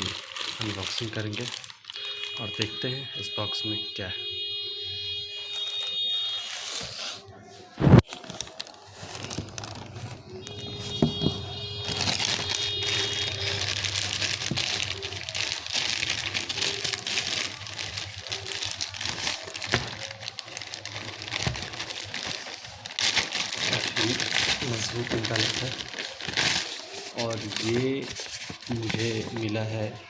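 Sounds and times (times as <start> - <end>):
packaging crinkling: 0.0 - 2.8, 5.4 - 30.0.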